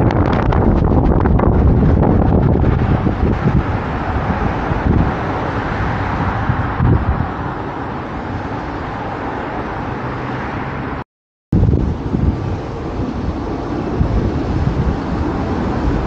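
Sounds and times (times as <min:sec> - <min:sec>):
road traffic noise: 0:00.0 - 0:16.0
wind buffeting microphone: 0:00.0 - 0:16.0.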